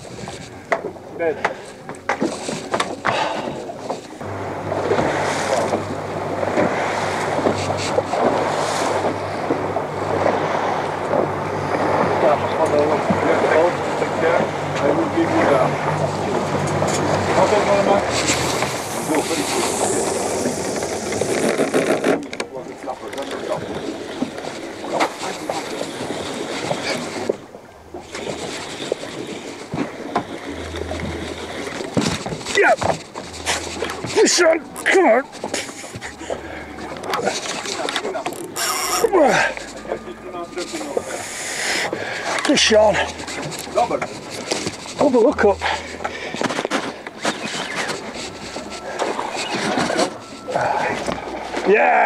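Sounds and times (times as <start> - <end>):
boat engine humming: 0.0 - 52.0
sea noise: 0.0 - 52.0
waves washing against hull: 0.0 - 52.0
wind: 0.0 - 52.0.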